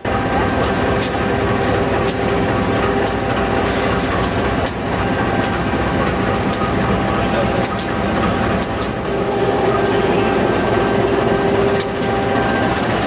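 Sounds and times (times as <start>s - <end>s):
locomotive engine rumbling: 0.0s - 13.0s.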